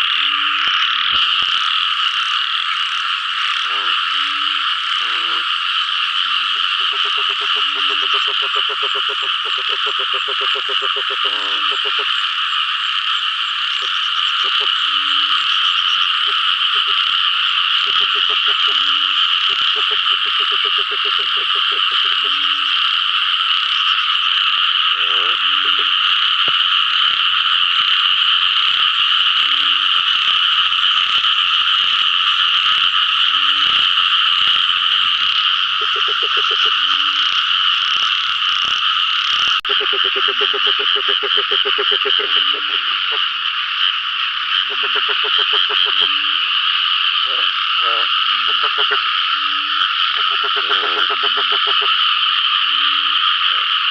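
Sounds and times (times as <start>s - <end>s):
frog pulsed croak: 0.0s - 53.9s
frogs calling in chorus: 0.0s - 53.9s.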